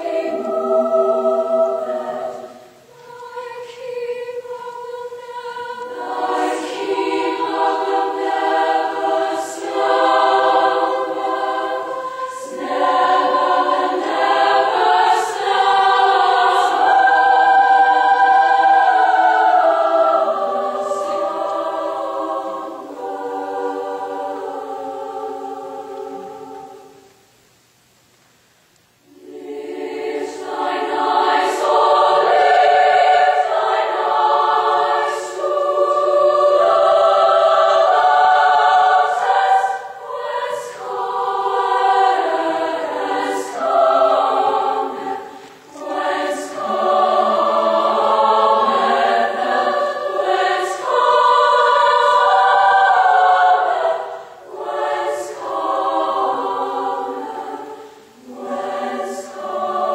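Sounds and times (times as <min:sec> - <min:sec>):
women's choir singing: 0:00.0 - 0:27.1, 0:29.0 - 0:59.9.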